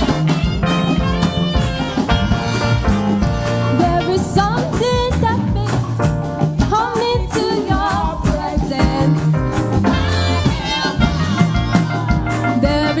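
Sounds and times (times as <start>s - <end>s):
worship band playing: 0.0s - 13.0s.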